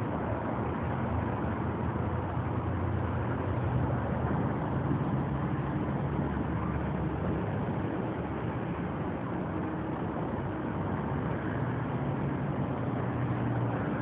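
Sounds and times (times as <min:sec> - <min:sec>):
faint engine hum: 0:00.0 - 0:14.0
road traffic rumble: 0:00.0 - 0:14.0.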